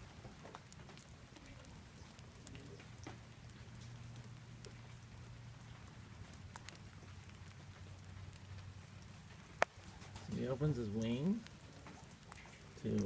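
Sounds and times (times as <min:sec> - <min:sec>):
light rain patter: 0:00.0 - 0:13.0
sharp raindrop ticks: 0:00.0 - 0:13.0.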